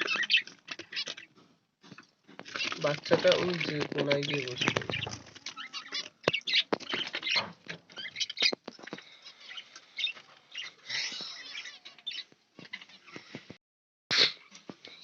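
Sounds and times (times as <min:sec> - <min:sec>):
cage birds chirping: 0:00.0 - 0:13.6.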